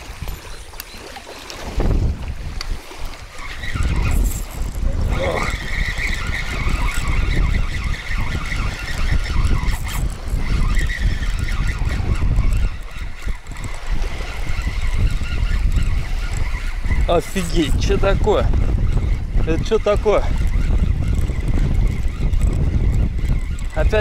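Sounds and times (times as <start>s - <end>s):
fishing reel gears whining: 0.0s - 1.7s, 2.8s - 24.0s
wind noise on microphone: 0.0s - 24.0s.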